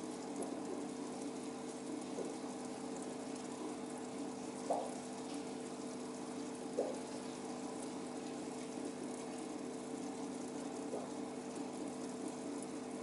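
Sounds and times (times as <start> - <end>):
aquarium pump hum: 0.0 - 13.0
water trickling and bubbling: 0.0 - 13.0.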